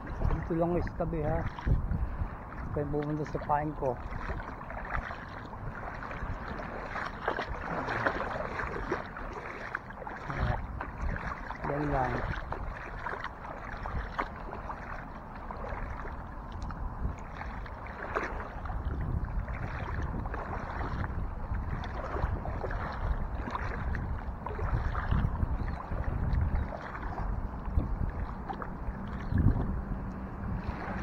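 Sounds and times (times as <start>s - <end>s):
seawater lapping and sloshing: 0.0s - 31.0s
wind on microphone: 0.0s - 31.0s.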